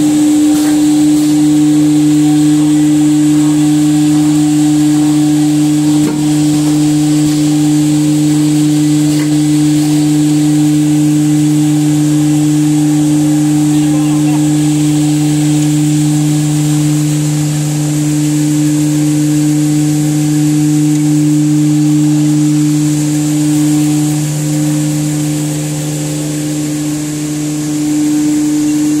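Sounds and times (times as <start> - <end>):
high steady whine: 0.0 - 29.0
machine motor hum: 0.0 - 29.0.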